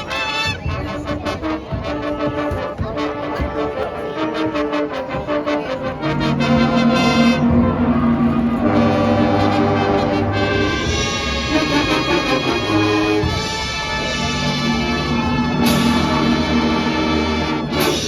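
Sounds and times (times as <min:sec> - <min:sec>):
brass chords: 0:00.0 - 0:18.0
low drums: 0:00.0 - 0:18.0.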